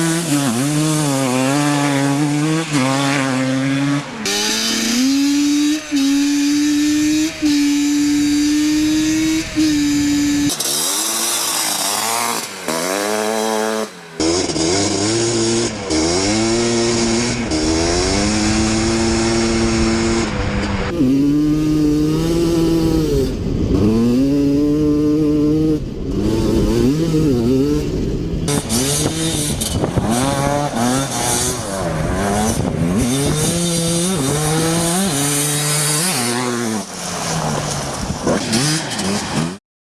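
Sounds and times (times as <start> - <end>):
two-stroke quad engine revving: 0.0 - 39.6.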